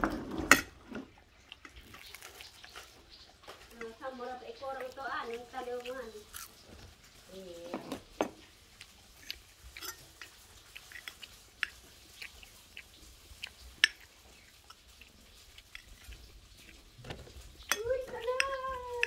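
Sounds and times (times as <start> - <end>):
soft chewing: 0.0 - 19.0.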